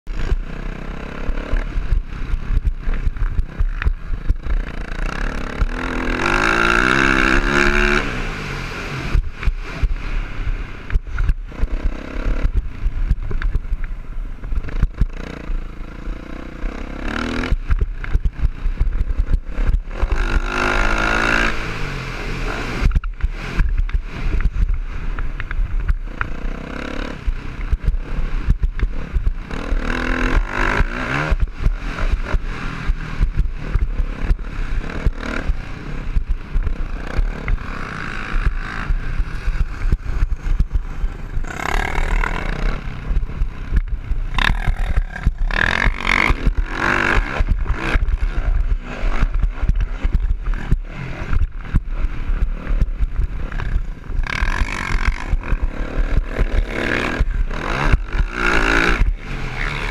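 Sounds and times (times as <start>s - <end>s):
dirt bike engine revving: 0.1s - 13.8s, 14.5s - 59.9s.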